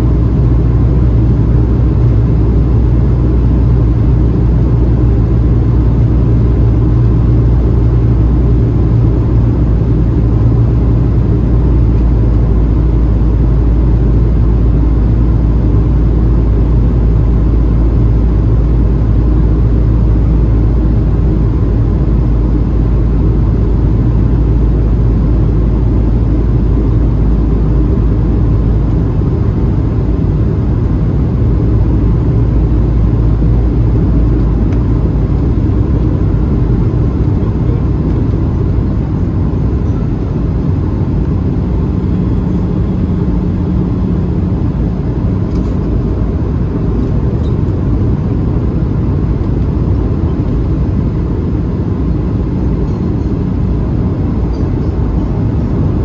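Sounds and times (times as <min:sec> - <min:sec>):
airplane cabin engine rumble: 0:00.0 - 0:56.0
steady low tone: 0:00.0 - 0:56.0.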